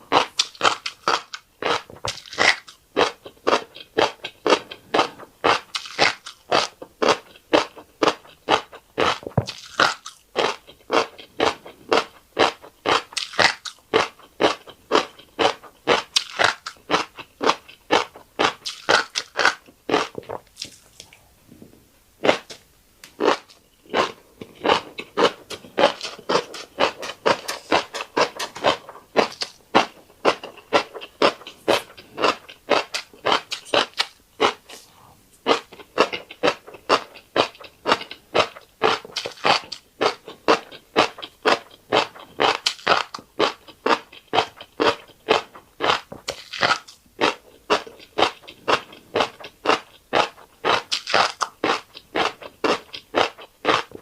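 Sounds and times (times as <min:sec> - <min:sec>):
crunchy chewing: 0:00.1 - 0:54.0.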